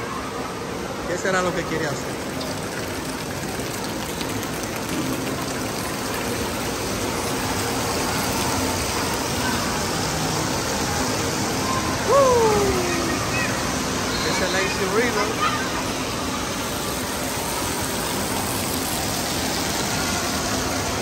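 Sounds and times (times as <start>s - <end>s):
water rushing and splashing: 0.0s - 21.0s.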